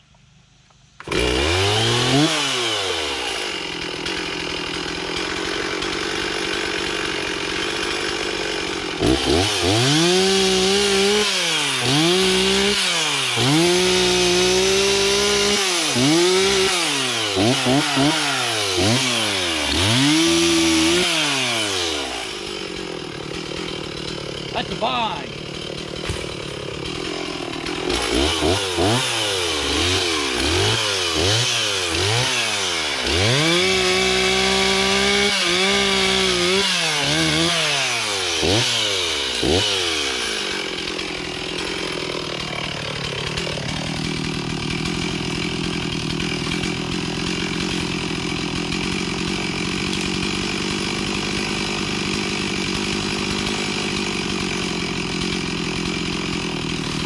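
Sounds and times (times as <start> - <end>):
chainsaw revving and idling: 0.0 - 57.0.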